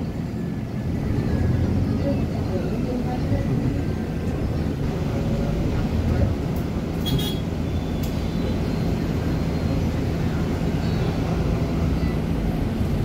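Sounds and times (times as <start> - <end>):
bus diesel engine drone: 0.0 - 13.0
road noise: 0.0 - 13.0.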